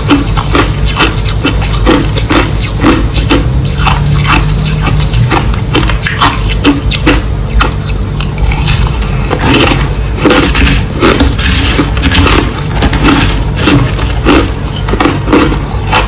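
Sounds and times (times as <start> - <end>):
crushed ice being chewed: 0.0 - 16.0.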